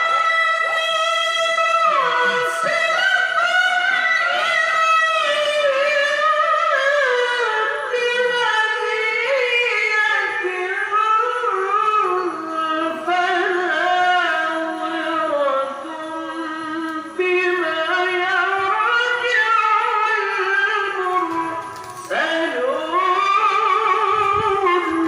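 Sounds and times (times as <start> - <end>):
high voice reciting melodically: 0.0 - 25.0.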